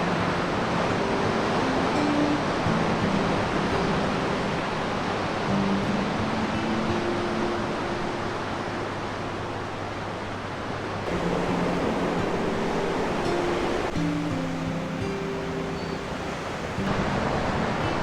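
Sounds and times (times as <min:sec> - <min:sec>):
soft background music: 0:00.0 - 0:10.2, 0:11.1 - 0:18.0
steady rushing noise: 0:00.0 - 0:18.0.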